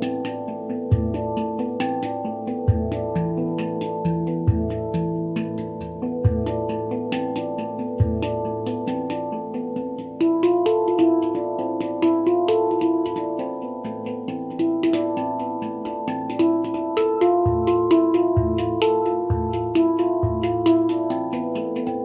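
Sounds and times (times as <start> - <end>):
handpan tapped notes: 0.0 - 22.0.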